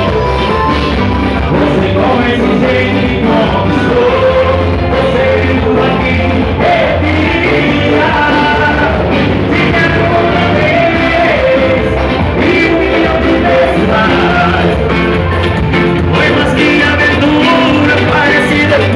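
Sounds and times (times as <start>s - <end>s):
bass and drum beat: 0.0s - 18.9s
live dance band playing: 0.0s - 18.9s
person singing: 0.0s - 18.9s.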